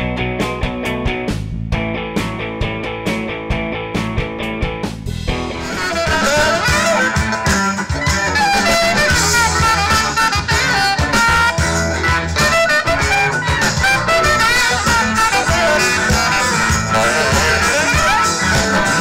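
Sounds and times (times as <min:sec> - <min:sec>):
drums: 0:00.0 - 0:19.0
electric guitar: 0:00.0 - 0:19.0
live blues band playing: 0:00.0 - 0:19.0.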